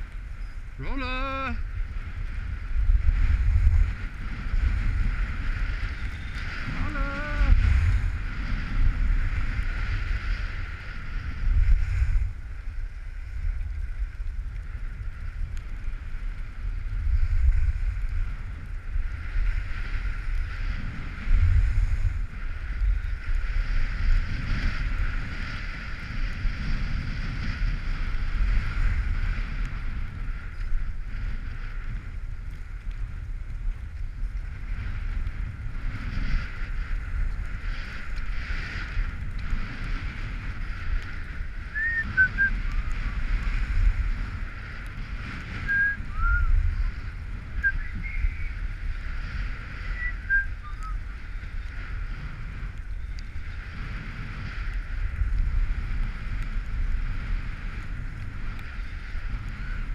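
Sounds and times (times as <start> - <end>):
skis sliding on packed snow: 0.0 - 59.9
wind buffeting microphone: 0.0 - 59.9.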